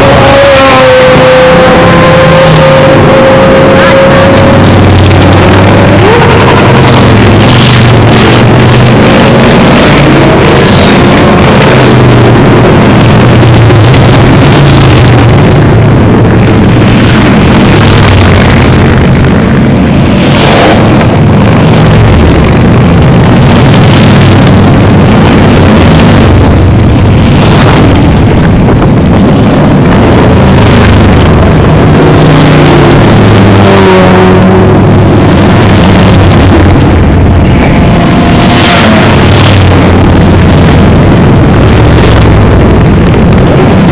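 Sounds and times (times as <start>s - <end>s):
motorcycles passing and revving: 0.0s - 43.9s.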